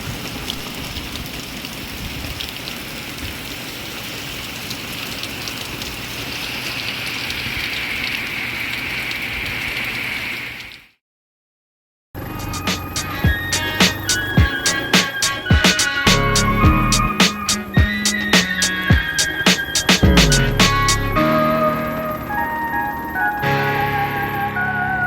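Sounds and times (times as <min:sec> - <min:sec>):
rain falling: 0:00.0 - 0:10.8, 0:12.2 - 0:22.5.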